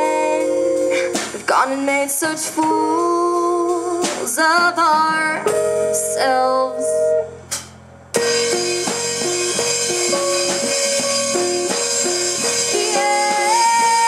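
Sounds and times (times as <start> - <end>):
bass guitar: 0.0 - 14.0
drum kit: 0.0 - 14.0.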